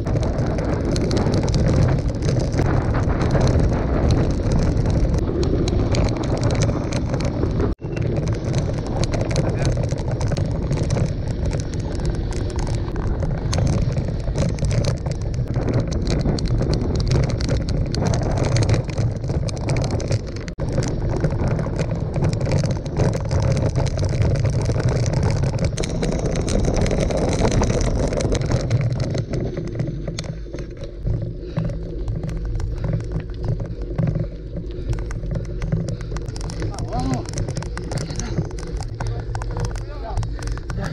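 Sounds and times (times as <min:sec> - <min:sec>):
bike rattles and clicks: 0:00.0 - 0:40.9
tyres crunching on gravel: 0:00.0 - 0:40.9
wind rumble on microphone: 0:00.0 - 0:40.9.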